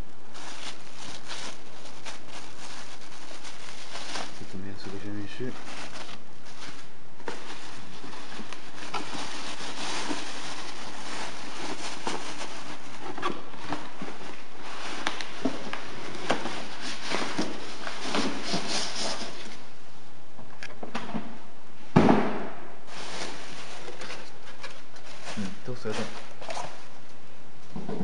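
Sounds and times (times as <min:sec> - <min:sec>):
plastic and bubble wrap crinkling: 0:00.0 - 0:19.8, 0:22.8 - 0:28.0.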